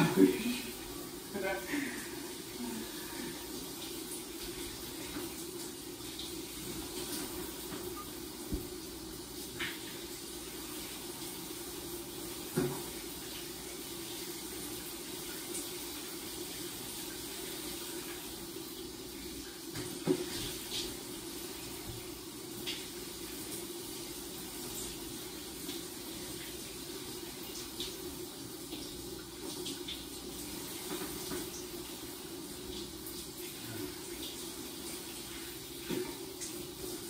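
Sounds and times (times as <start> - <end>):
shower running: 0.0 - 37.0.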